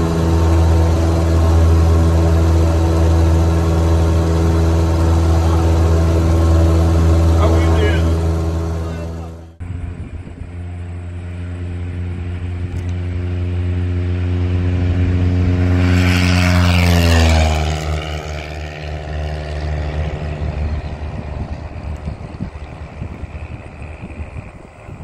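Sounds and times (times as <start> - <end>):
vehicle engine drone passing: 0.0 - 25.0.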